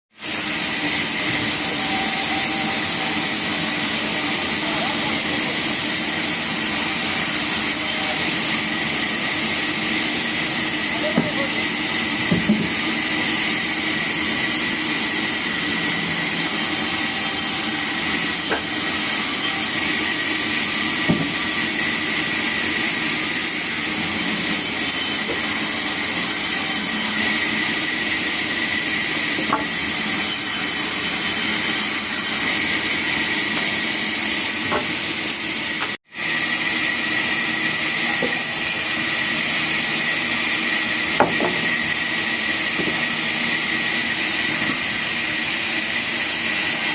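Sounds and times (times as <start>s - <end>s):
woodworking machinery hissing: 0.1s - 46.9s.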